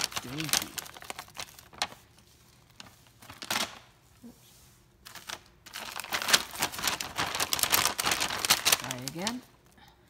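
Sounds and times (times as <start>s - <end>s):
plastic bag crinkling: 0.0s - 3.9s, 5.0s - 9.7s.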